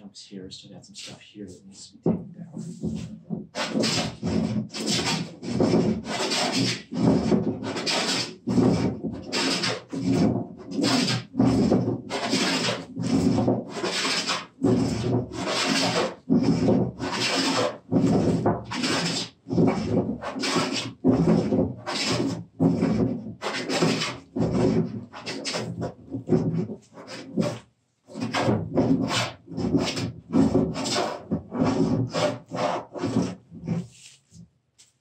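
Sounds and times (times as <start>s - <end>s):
hand plane shaving wood: 2.6s - 34.3s.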